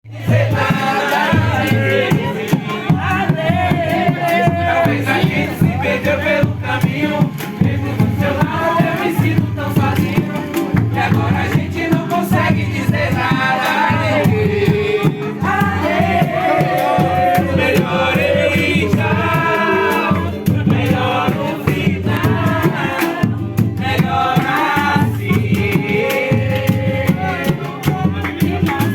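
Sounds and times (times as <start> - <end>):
pulsing bass beat: 0.1 - 28.9
voices singing: 0.1 - 28.9.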